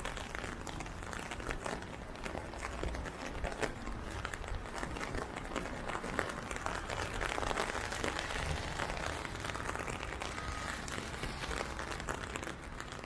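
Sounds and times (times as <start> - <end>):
rain pattering on umbrella: 0.0 - 13.0.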